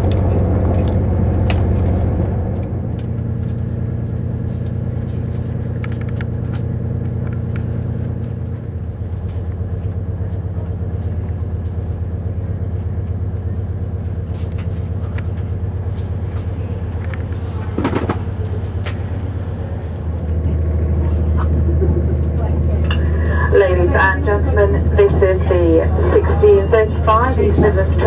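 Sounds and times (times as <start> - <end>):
diesel train engine humming: 0.0 - 28.0.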